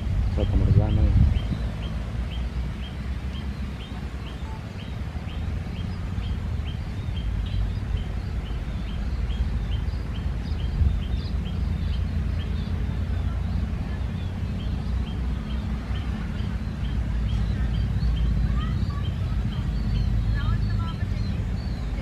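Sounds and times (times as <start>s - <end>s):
low steady rumble: 0.0s - 22.0s
small bird chirping: 0.1s - 22.0s.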